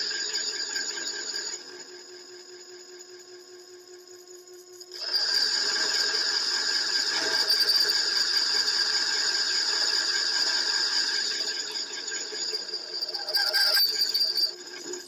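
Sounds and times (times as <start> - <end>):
lathe cutting metal whine: 0.0 - 2.9, 4.9 - 15.0
lathe motor hum: 0.0 - 2.9, 5.0 - 15.0.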